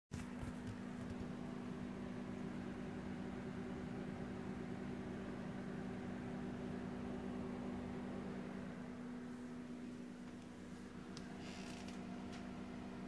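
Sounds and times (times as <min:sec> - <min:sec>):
computer cooling fans humming: 0:00.2 - 0:13.0.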